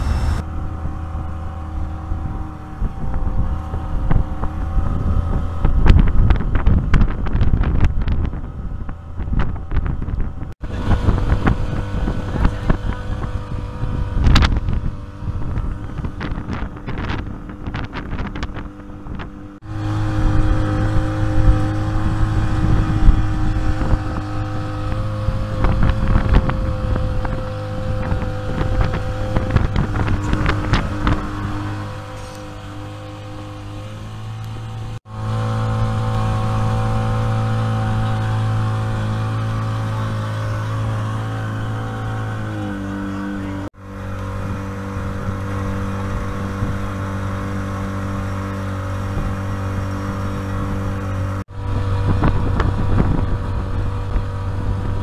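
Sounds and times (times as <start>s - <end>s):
motorboat engine humming: 0.0s - 55.0s
wind buffeting microphone: 0.0s - 55.0s.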